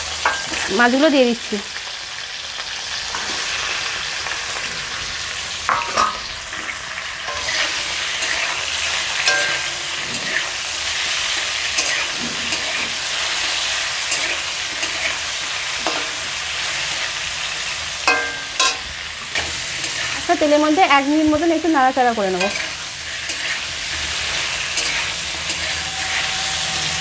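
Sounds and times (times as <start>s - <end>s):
fish sizzling in hot oil: 0.0s - 27.0s
metal spatula scraping a pan: 3.1s - 27.0s.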